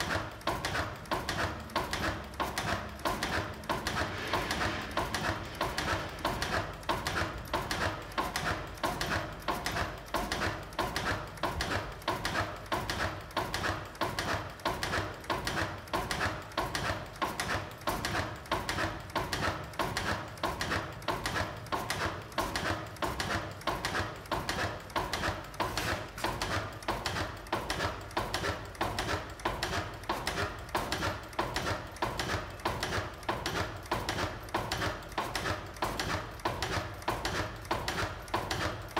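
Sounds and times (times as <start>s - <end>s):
stationary gas engine clattering: 0.0s - 38.9s.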